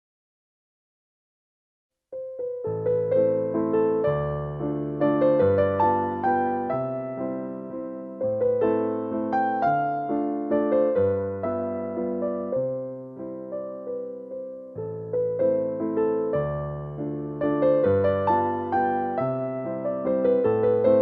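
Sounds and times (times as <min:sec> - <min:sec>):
gentle electric piano music: 0:02.1 - 0:21.0.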